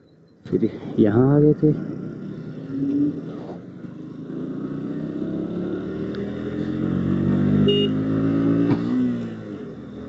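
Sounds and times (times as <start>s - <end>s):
motorcycle engine accelerating: 1.8s - 10.0s.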